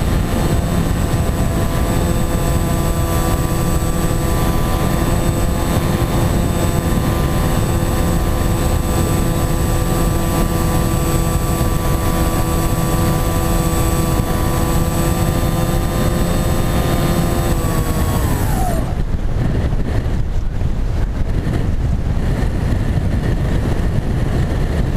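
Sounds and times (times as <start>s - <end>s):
model aircraft motor and propeller: 0.0s - 24.9s
wind buffeting microphone: 0.0s - 24.9s.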